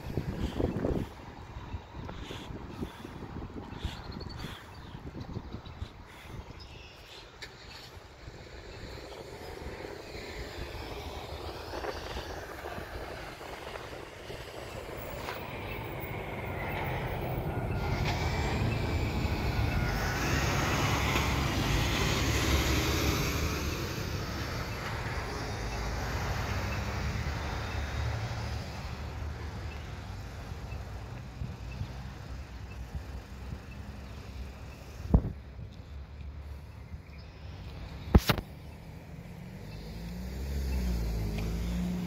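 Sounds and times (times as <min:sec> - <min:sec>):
passing vehicle engine and tyres: 0:00.0 - 0:42.0.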